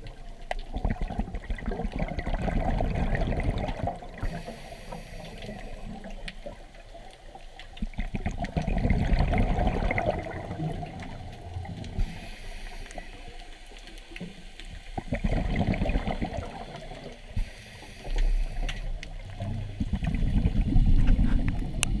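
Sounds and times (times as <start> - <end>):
underwater bubbles gurgling: 0.0 - 22.0.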